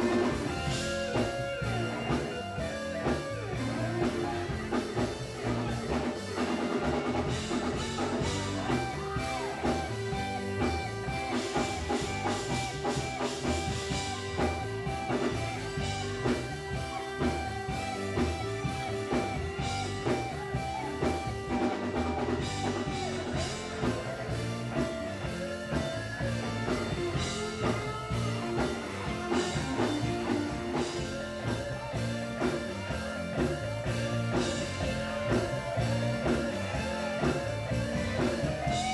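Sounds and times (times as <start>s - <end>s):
bass guitar: 0.0s - 38.9s
drum kit beat: 0.0s - 38.9s
electric guitars: 0.0s - 38.9s.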